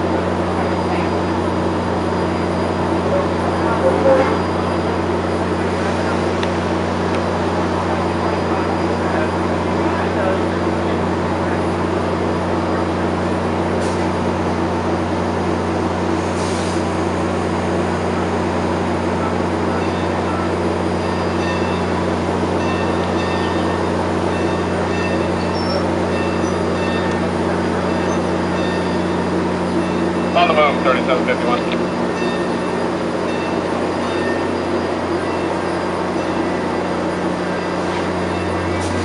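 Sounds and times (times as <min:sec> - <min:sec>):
train machinery humming: 0:00.0 - 0:39.0.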